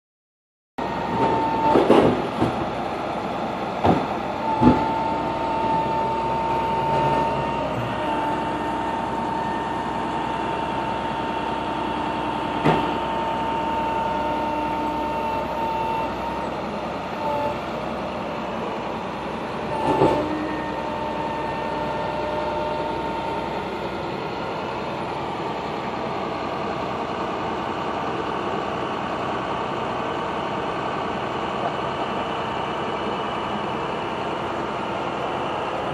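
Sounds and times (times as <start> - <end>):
truck engine running: 0.8 - 35.9.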